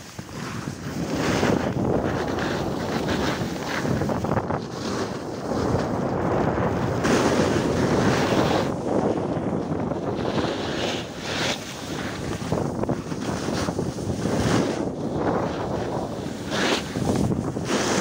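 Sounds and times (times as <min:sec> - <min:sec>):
skis scraping snow: 0:00.0 - 0:18.0
wind rushing over microphone: 0:00.0 - 0:18.0.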